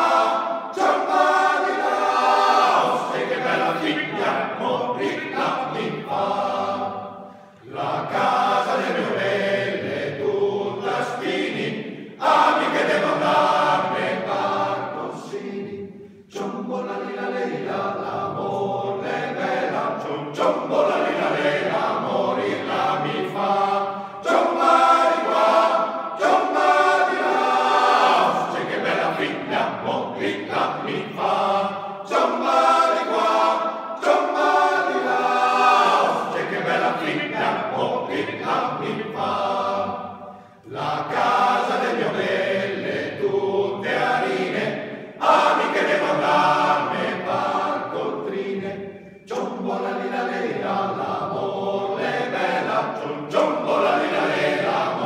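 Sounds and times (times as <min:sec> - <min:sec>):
male choir singing a cappella: 0:00.0 - 0:55.0.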